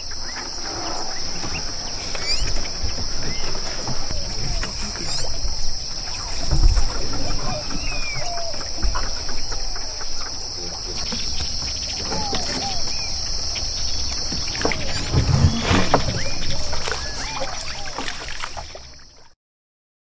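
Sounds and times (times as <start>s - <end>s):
ducks calling: 0.0s - 18.8s.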